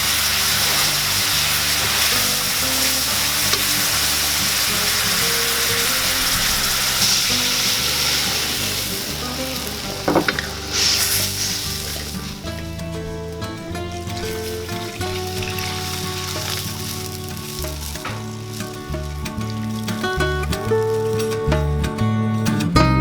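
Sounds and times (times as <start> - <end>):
food sizzling in a pan: 0.0 - 21.6
background music: 0.0 - 23.0.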